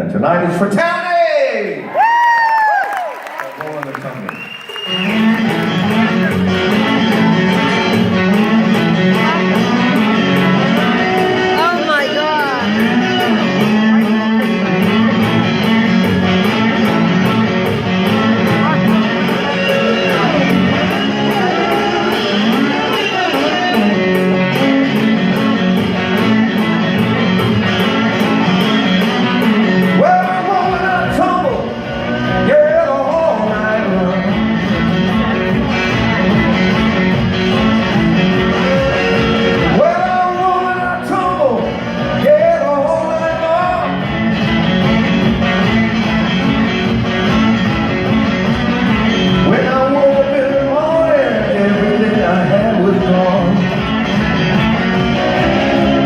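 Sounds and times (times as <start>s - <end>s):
blues rock band playing: 1.8s - 56.0s
slide guitar notes: 4.8s - 56.0s
deep bass: 4.9s - 56.0s.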